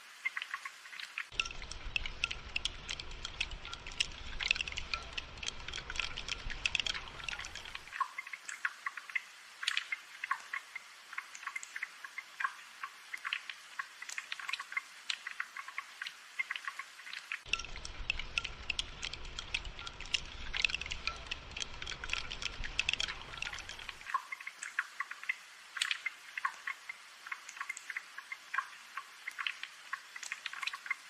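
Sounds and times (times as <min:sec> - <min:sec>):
rain dripping and pattering: 0:00.0 - 0:31.0.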